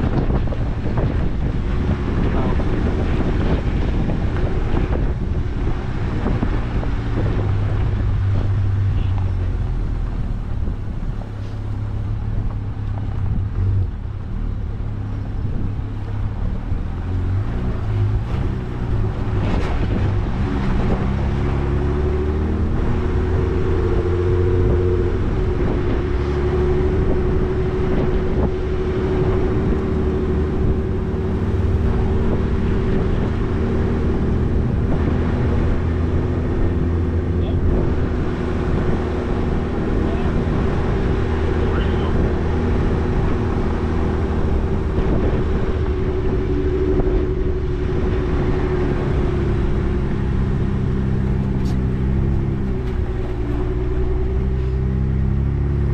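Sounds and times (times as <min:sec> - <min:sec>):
off-road vehicle engine running: 0:00.0 - 0:55.9
wind noise: 0:00.0 - 0:55.9.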